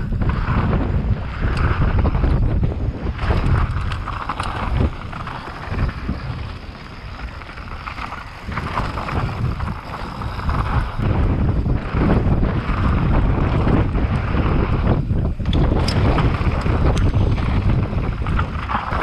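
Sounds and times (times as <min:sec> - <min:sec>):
bike tyres rumbling and clattering: 0:00.0 - 0:19.0
wind buffeting microphone: 0:00.0 - 0:19.0.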